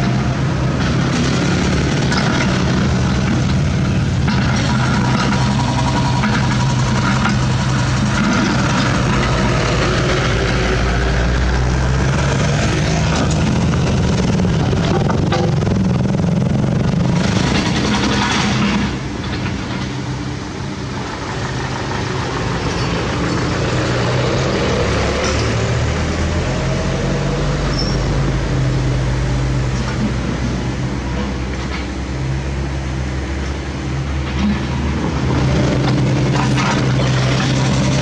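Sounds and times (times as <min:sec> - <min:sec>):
diesel engines running: 0:00.0 - 0:38.0
tyre and road noise: 0:00.0 - 0:38.0.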